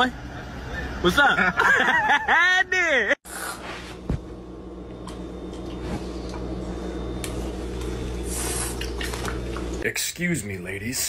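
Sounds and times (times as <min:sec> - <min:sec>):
low room hum: 0:00.1 - 0:11.0.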